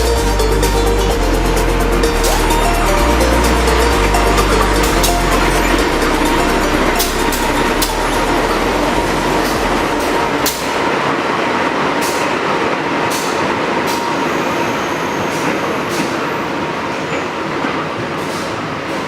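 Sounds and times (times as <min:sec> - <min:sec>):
train rumble and hiss: 0:00.0 - 0:19.0
wheels clacking on rails: 0:00.0 - 0:19.0.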